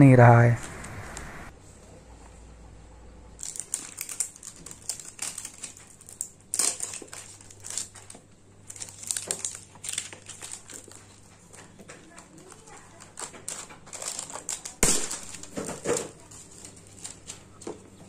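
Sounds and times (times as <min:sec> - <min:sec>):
paper and plastic wrap crinkling: 0:03.4 - 0:18.0.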